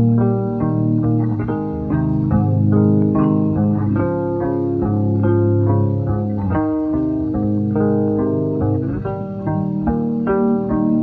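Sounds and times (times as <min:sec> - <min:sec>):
bass guitar: 0:00.0 - 0:11.0
plucked guitar: 0:00.0 - 0:11.0.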